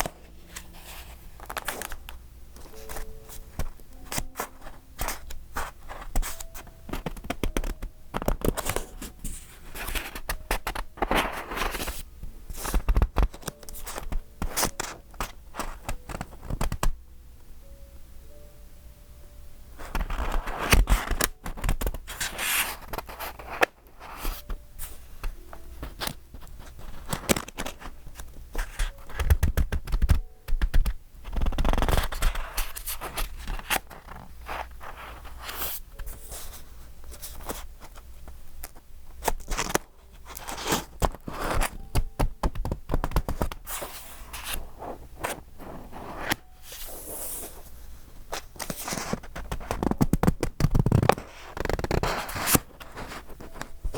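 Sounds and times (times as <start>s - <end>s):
paper pages rustling: 0.0s - 16.9s, 19.8s - 38.0s, 38.7s - 53.9s.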